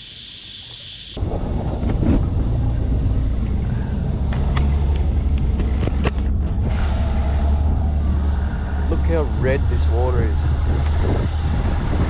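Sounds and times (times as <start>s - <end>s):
boat motor rumbling: 1.2s - 12.0s.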